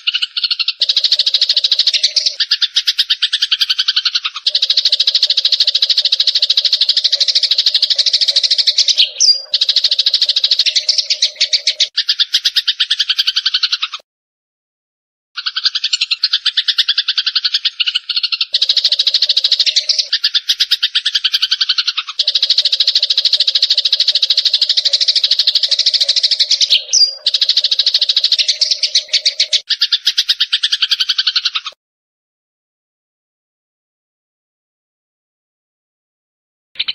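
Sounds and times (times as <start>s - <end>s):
sparrows chirping: 0.0s - 14.0s, 15.4s - 31.8s.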